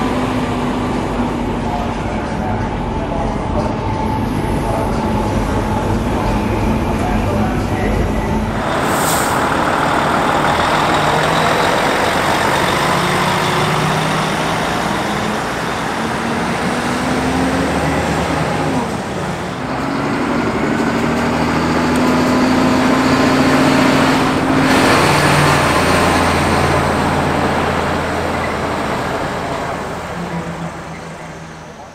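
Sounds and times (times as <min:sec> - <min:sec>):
diesel trucks accelerating past: 0:00.0 - 0:31.9.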